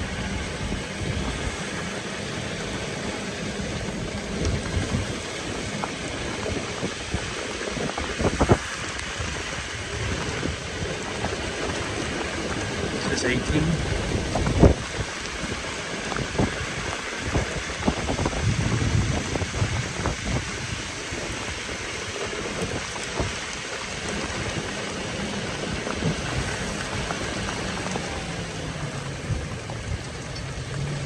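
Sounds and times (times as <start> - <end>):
heavy rain pouring: 0.0 - 31.0
raindrops ticking close by: 0.0 - 31.0.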